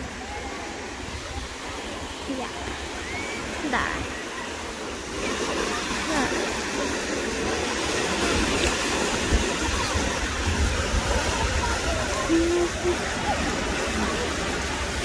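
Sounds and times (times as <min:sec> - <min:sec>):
faint voices: 0:00.0 - 0:15.0
waves breaking on beach: 0:00.0 - 0:15.0.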